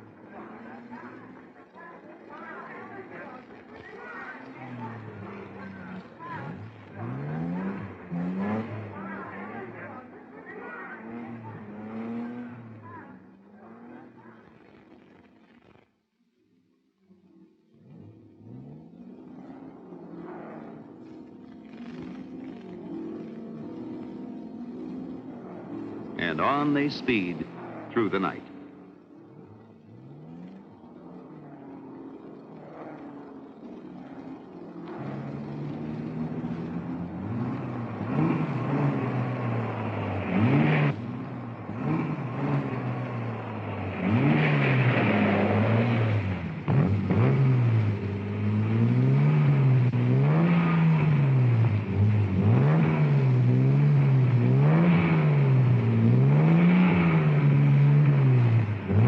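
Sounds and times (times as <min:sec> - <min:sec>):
racing car engines accelerating: 0:00.0 - 0:15.9, 0:16.5 - 0:59.0.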